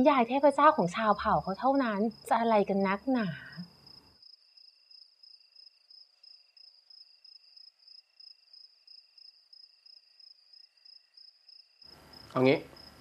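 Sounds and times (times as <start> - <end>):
crickets trilling: 0.0 - 13.0
lower cricket chirp: 0.0 - 13.0.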